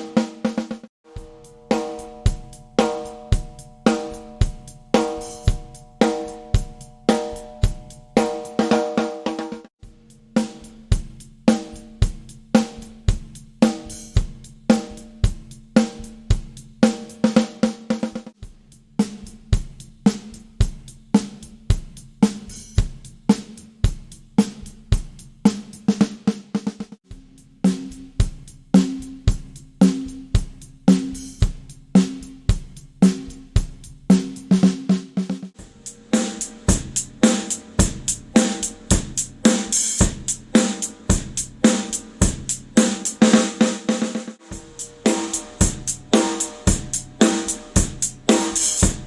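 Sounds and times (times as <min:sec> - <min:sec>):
drum kit groove: 0:00.0 - 0:49.0.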